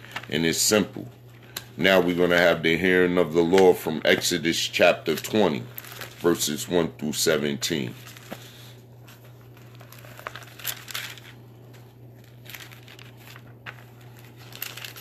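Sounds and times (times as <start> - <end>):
paper pages rustling: 0.0 - 1.6, 3.4 - 6.7, 7.6 - 15.0
low electrical hum: 0.0 - 15.0.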